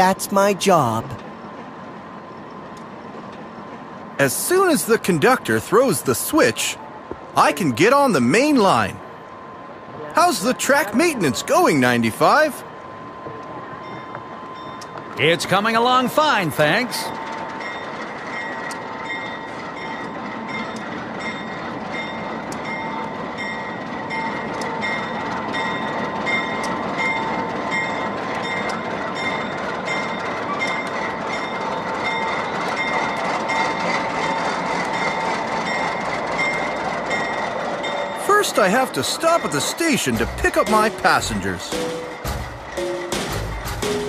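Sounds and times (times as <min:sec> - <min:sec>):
train wheels rumbling on rail: 0:00.8 - 0:09.2, 0:09.8 - 0:44.0.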